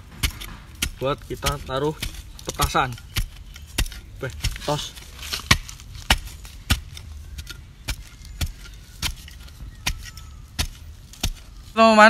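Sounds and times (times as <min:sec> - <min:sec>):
hand tool striking stony soil: 0:00.0 - 0:11.9
earth and grit scraping: 0:00.0 - 0:12.0.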